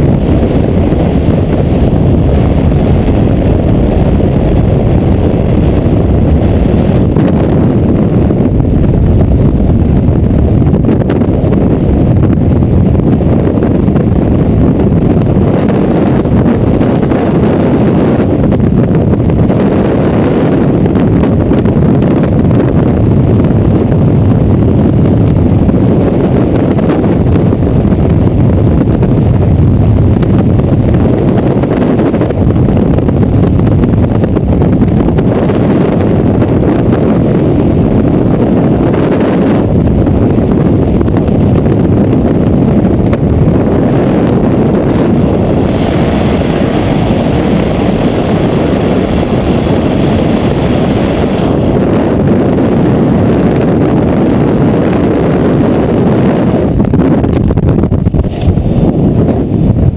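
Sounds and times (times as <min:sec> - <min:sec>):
wind roaring over microphone: 0:00.0 - 0:59.9.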